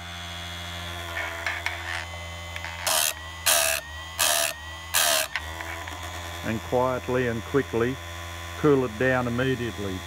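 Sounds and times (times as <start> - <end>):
chainsaw sharpener humming: 0.0 - 10.0
harsh grinding bursts: 0.8 - 10.0.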